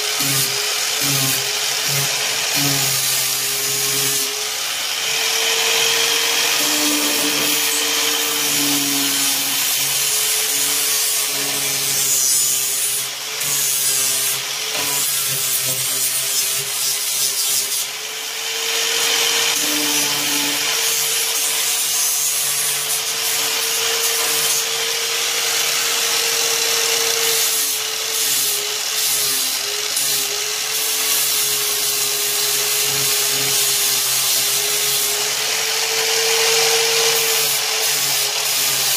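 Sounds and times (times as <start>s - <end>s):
angle grinder grinding fiberglass: 0.0s - 38.9s.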